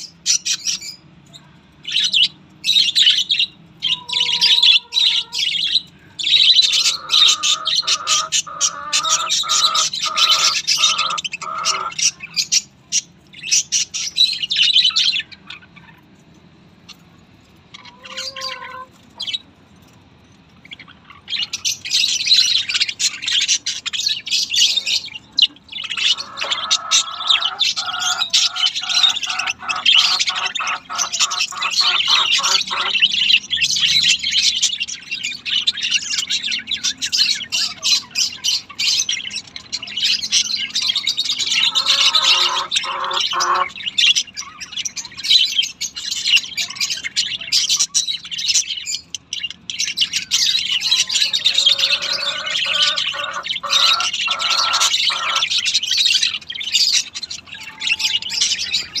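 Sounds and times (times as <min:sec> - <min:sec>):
budgerigars chattering and warbling: 0:00.0 - 0:59.0
loud repeated bird chirp: 0:01.8 - 0:16.2, 0:20.6 - 0:59.0.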